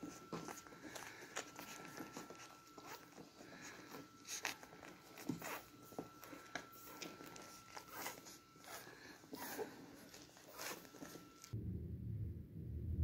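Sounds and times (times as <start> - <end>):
puppies suckling: 0.0 - 11.6.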